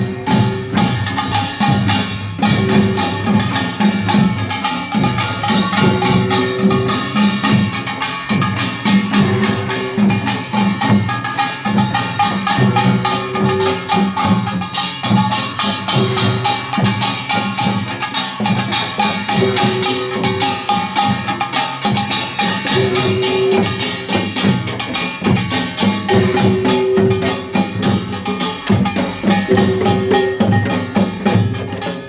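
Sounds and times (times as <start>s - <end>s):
drums: 0.0s - 32.0s
small hand gongs clanging: 0.0s - 32.0s.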